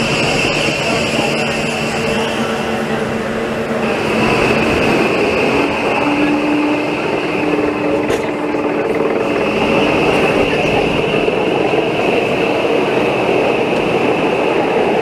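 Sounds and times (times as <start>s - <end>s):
rack railcar running rumble: 0.0s - 15.0s.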